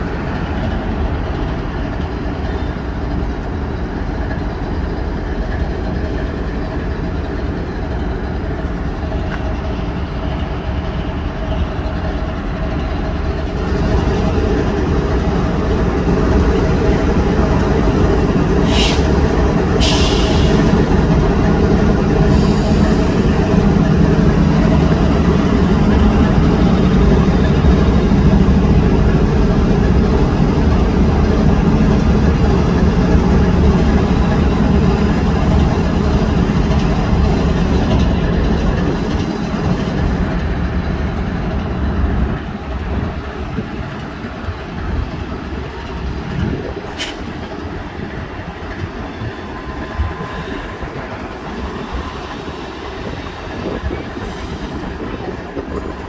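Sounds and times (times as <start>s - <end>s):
diesel locomotives running: 0.0s - 56.0s.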